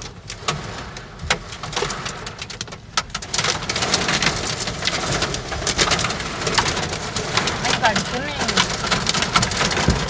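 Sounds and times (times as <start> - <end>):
hail clattering on car roof: 0.0 - 10.0.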